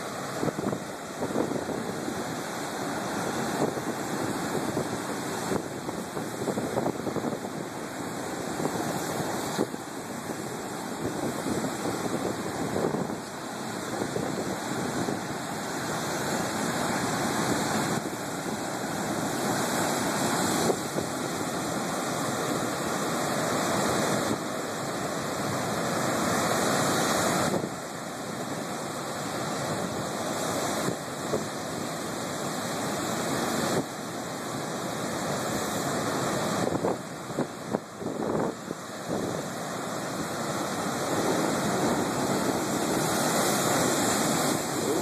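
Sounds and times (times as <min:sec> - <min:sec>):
waves crashing on rocky shore: 0:00.0 - 0:45.0.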